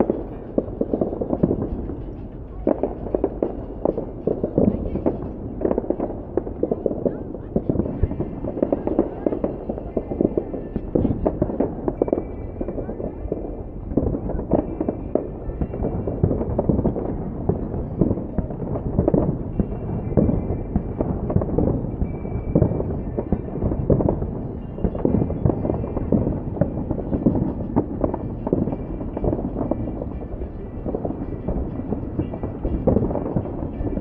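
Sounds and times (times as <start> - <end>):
fireworks booming and crackling: 0.0 - 34.0.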